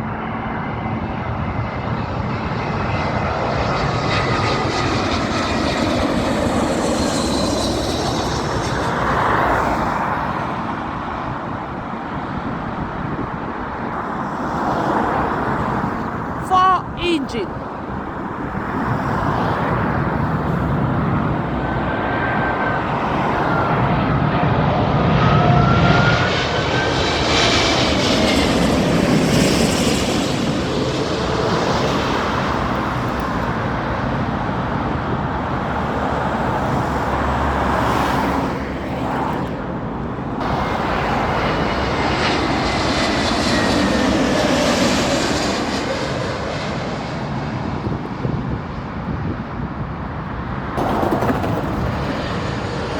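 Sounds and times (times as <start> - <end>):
jet engines passing overhead: 0.0 - 16.4, 17.5 - 52.9.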